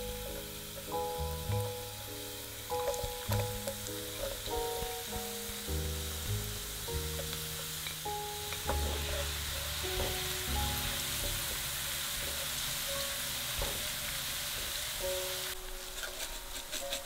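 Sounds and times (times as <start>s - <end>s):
garlic sizzling in oil: 0.0s - 17.0s
soft background music: 0.0s - 17.0s.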